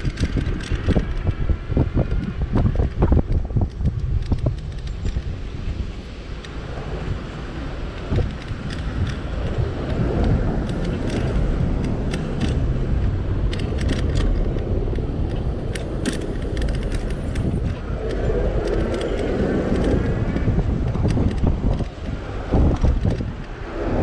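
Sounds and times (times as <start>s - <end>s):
light clicks and rattles: 0.0s - 5.5s, 7.9s - 23.6s
road rumble: 0.0s - 24.0s
wind buffeting microphone: 0.0s - 24.0s.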